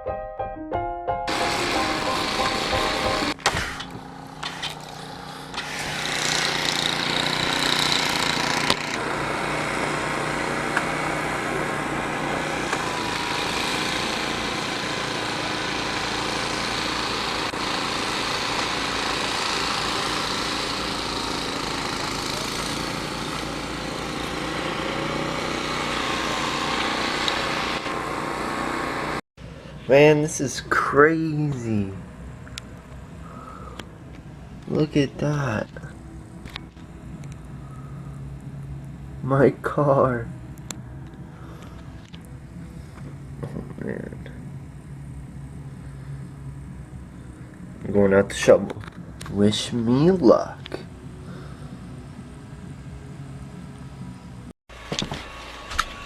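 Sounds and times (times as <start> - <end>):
small engine running: 1.3 - 29.8, 31.6 - 56.0
rushing outdoor noise: 1.3 - 56.0.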